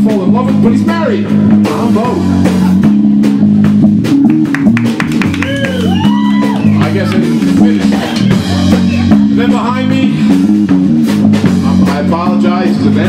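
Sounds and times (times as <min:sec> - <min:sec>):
drum hits: 0:00.0 - 0:13.0
rock band playing: 0:00.0 - 0:13.0
electric guitar riff: 0:01.3 - 0:11.9.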